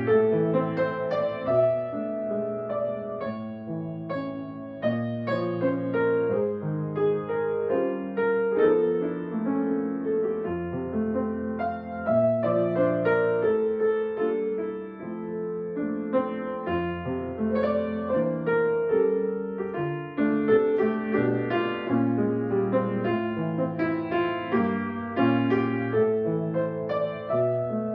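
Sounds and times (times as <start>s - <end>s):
piano piece: 0.0s - 27.9s.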